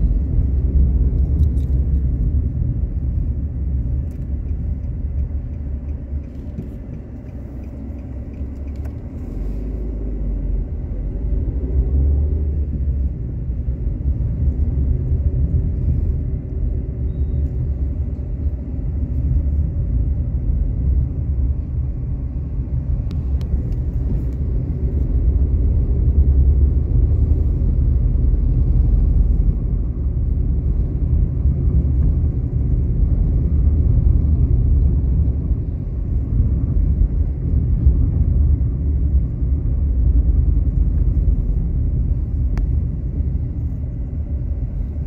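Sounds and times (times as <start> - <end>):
moving vehicle rumble: 0.0 - 45.0.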